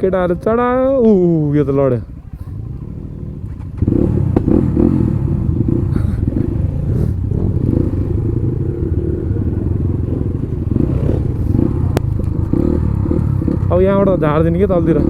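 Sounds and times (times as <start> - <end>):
loud motorcycle engine running: 2.0 - 15.0.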